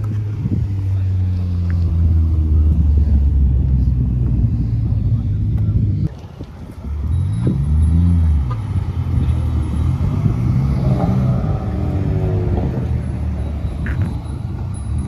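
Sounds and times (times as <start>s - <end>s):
cars driving past with exhaust rumble: 0.0s - 15.0s.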